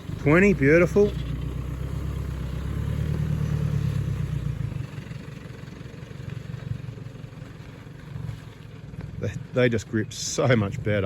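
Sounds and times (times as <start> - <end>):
vehicle engine low rumble: 0.0 - 11.0.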